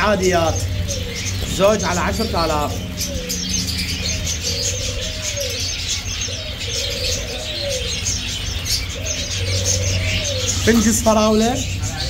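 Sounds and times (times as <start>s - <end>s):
doves cooing: 0.0s - 12.0s
finches chirping: 0.0s - 12.0s.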